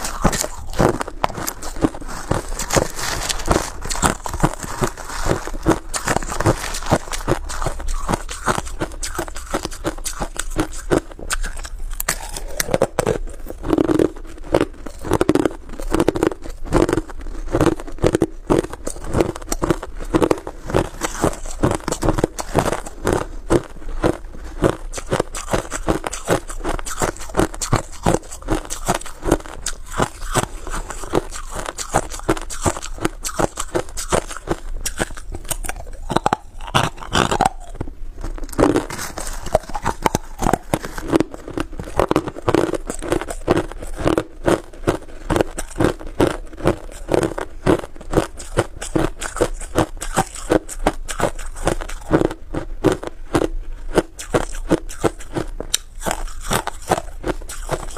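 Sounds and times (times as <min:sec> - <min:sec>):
chewing crushed ice: 0:00.0 - 0:57.9.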